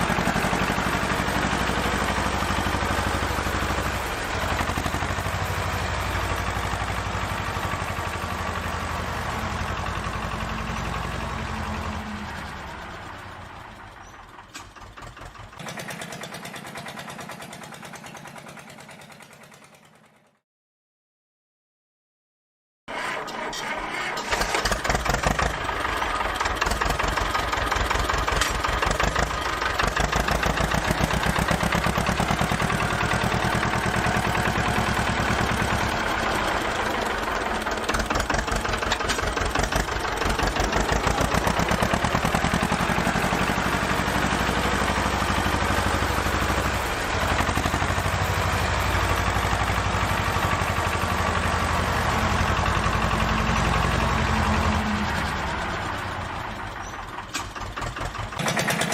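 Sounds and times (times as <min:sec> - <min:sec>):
engine chugging: 0:00.0 - 0:20.3, 0:24.1 - 0:58.9.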